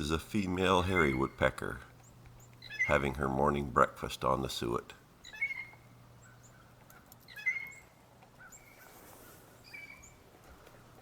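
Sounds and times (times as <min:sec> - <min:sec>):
birds calling: 0:00.0 - 0:11.0
faint low hum: 0:00.0 - 0:11.0.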